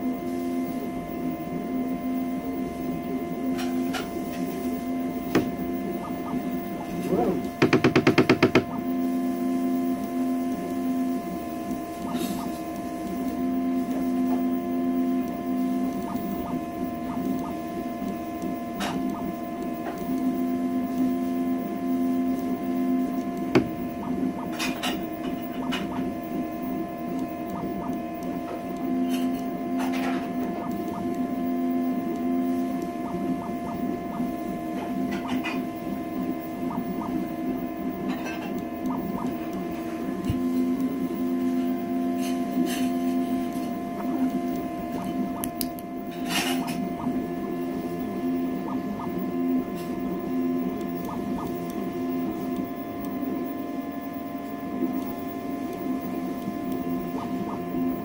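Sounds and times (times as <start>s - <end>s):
fan hum: 0.0s - 58.0s.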